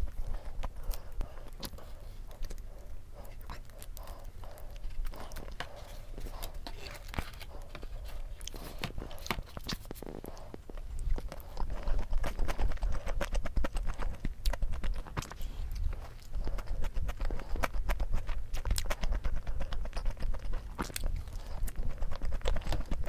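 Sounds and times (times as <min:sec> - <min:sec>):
wet chewing mouth clicks: 0:00.0 - 0:23.0.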